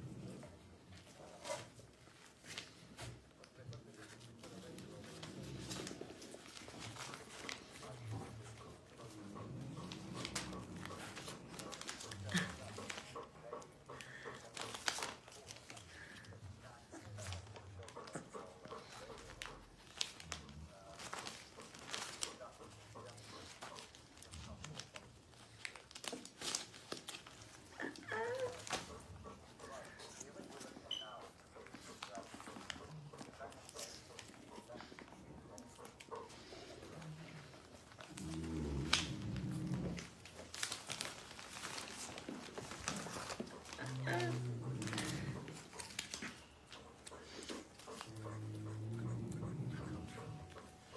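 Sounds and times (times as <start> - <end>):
newspaper rustling and crinkling: 0.9 - 48.4
gift bow crinkling: 1.1 - 18.1, 18.9 - 50.9.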